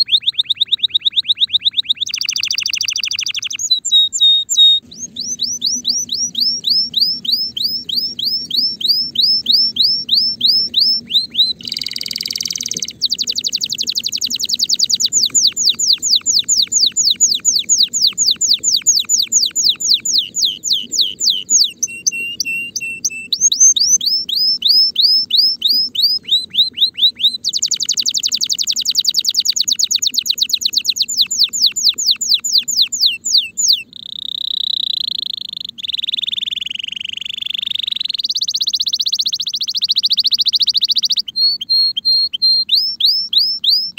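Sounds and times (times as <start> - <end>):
canary singing: 0.0 - 43.9.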